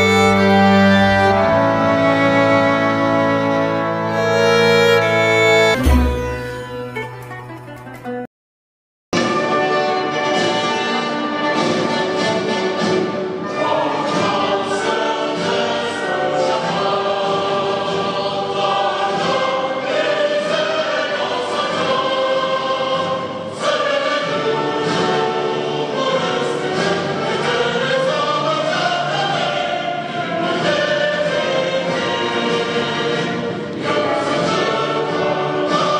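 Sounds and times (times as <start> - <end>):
choir and orchestra over loudspeakers: 0.0 - 7.0, 9.3 - 35.9.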